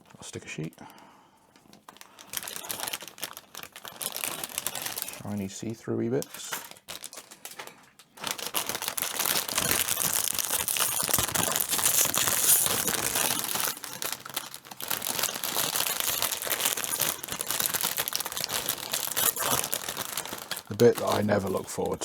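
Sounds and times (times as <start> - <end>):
plastic bags crinkling: 1.5 - 22.0.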